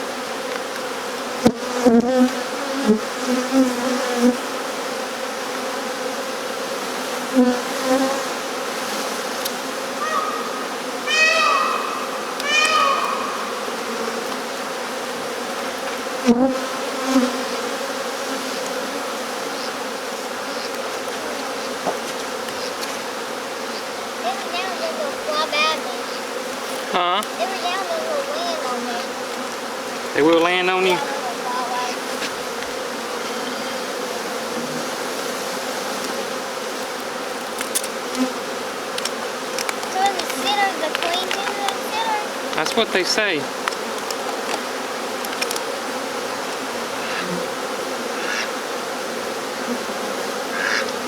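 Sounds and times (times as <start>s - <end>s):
honeybee swarm buzzing: 0.0s - 51.0s.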